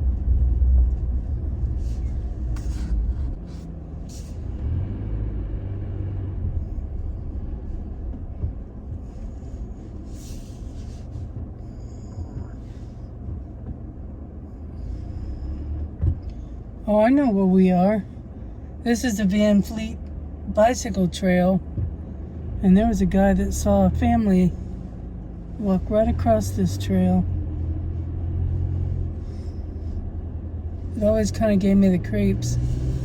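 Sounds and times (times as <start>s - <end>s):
truck engine and road rumble: 0.0s - 33.0s.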